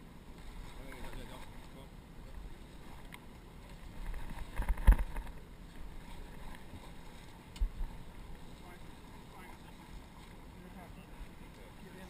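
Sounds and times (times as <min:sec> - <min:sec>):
boat noise: 0:00.0 - 0:12.0.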